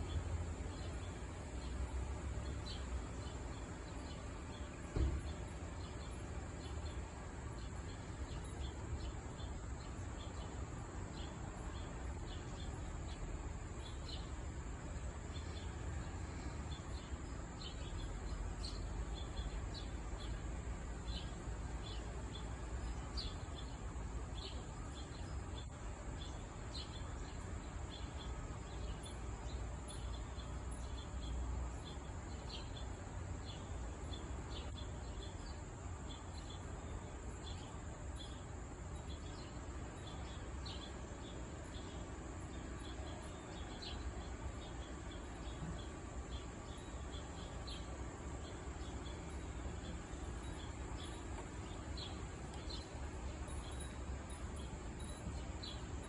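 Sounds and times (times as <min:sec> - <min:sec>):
insect chirps: 0:00.0 - 0:56.0.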